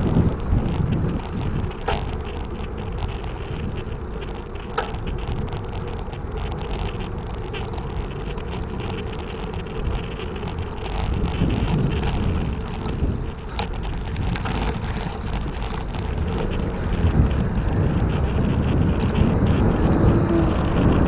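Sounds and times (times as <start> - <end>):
bicycle road noise: 0.0 - 21.0
wind on microphone: 0.0 - 21.0.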